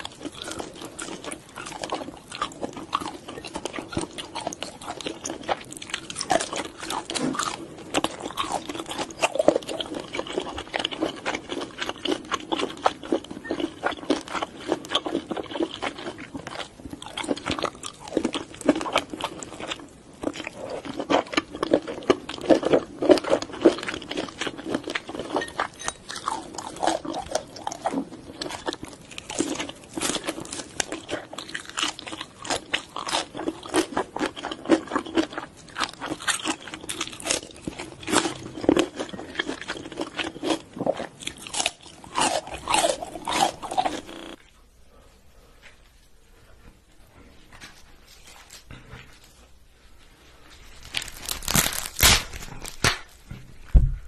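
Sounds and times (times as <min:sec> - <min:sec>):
crunching bites: 0:00.0 - 0:44.4, 0:50.7 - 0:53.2
wet chewing clicks: 0:00.0 - 0:44.4.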